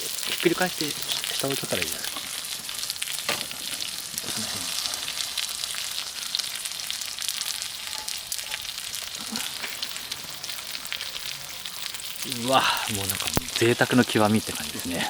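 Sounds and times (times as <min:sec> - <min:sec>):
spattering fat pops: 0:00.0 - 0:14.9
food sizzling in a pan: 0:00.0 - 0:15.0.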